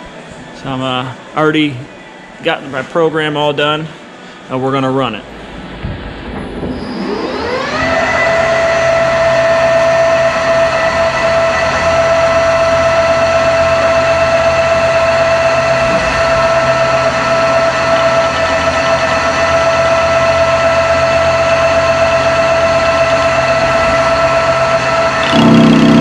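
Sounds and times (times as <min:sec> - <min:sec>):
lathe running with high whine: 0:00.0 - 0:26.0.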